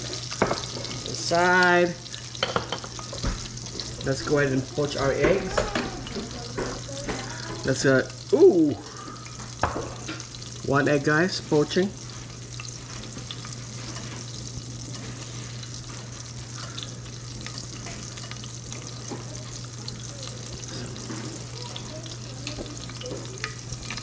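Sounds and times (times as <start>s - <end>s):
stovetop sizzle with crackles: 0.0s - 24.0s.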